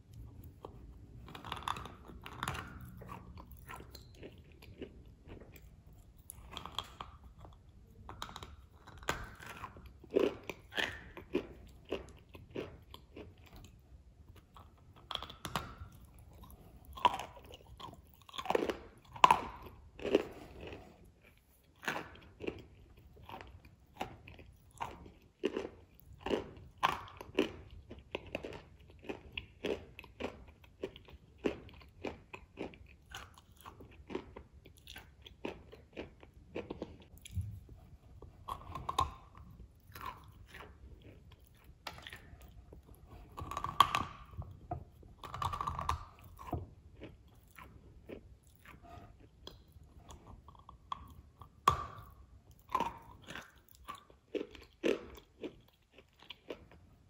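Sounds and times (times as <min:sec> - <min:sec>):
crisp chewing crunches: 0:00.0 - 0:57.0.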